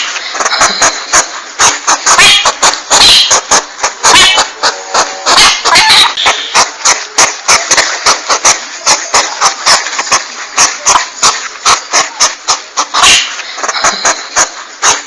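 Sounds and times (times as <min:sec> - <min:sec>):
porcupine huffing: 0:00.0 - 0:15.0.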